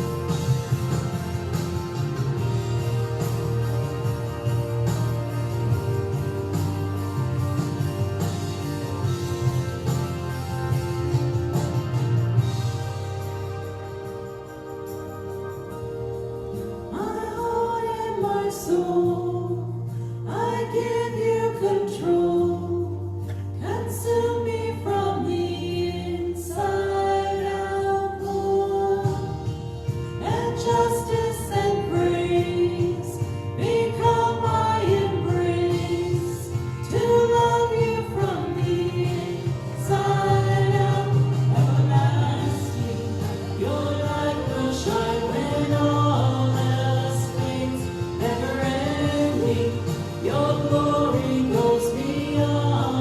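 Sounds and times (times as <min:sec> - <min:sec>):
instrumental backing: 0:00.0 - 0:20.2, 0:23.1 - 0:53.0
voices singing worship song: 0:00.0 - 0:53.0.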